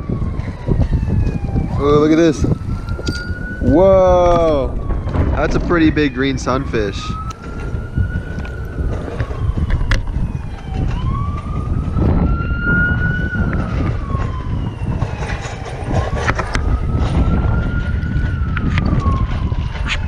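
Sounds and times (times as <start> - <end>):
siren wailing: 0.0 - 20.0
wind buffeting microphone: 0.0 - 20.0.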